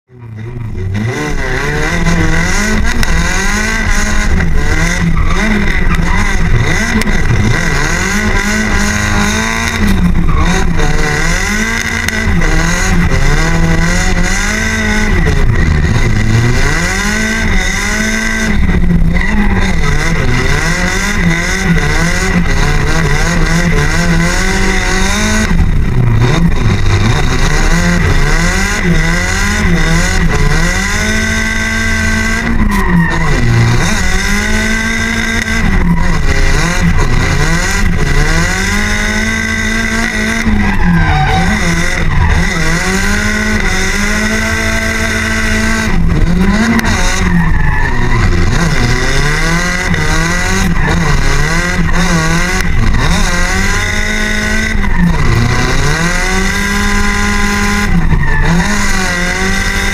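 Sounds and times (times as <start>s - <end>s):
car engine revving hard: 0.2s - 59.9s.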